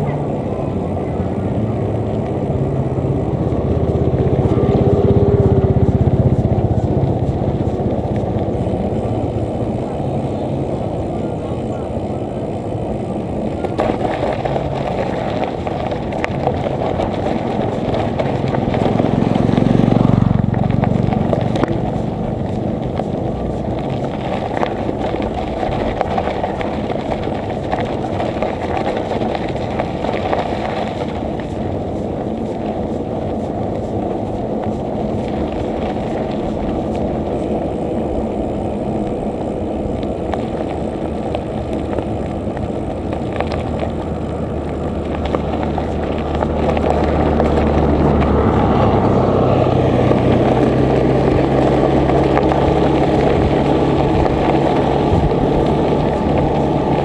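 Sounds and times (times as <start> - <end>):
bicycle tyres on road: 0.0 - 57.0
low rumble: 0.0 - 57.0
wind noise: 0.0 - 57.0.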